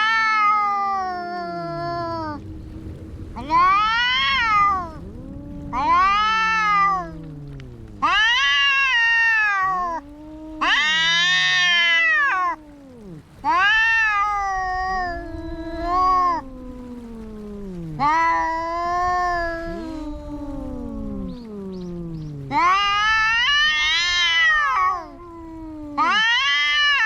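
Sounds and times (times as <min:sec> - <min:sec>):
cat yowling loudly: 0:00.0 - 0:02.4, 0:03.4 - 0:27.0
cat low wavering yowl: 0:00.0 - 0:27.0.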